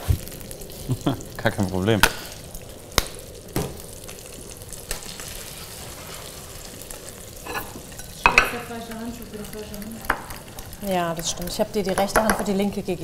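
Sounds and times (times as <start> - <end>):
oil sizzling in pot: 0.0 - 13.0.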